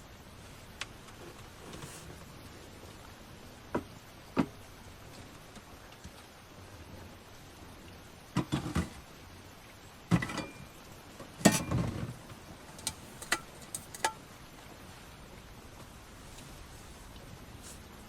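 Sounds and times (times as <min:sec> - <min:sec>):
low hiss: 0:00.0 - 0:18.0.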